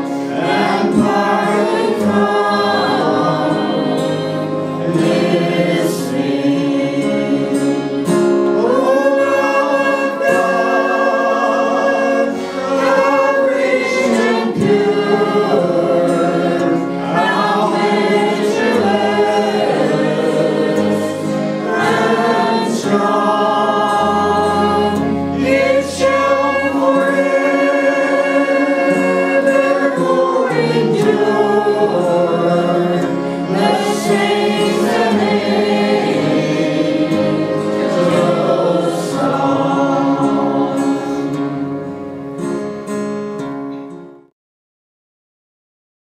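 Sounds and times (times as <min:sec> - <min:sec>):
group singing gospel in harmony: 0:00.0 - 0:42.2
acoustic guitar: 0:00.0 - 0:44.3.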